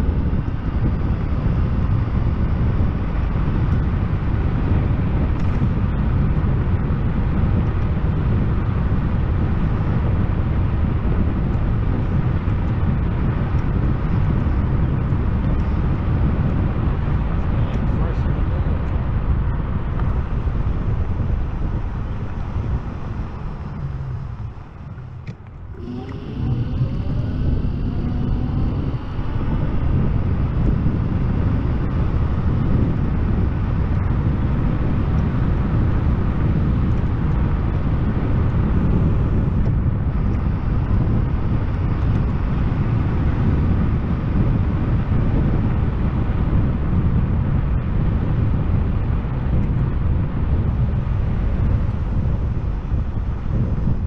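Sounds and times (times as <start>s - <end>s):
electric scooter motor whine: 0.0s - 54.0s
wind rushing on microphone: 0.0s - 54.0s.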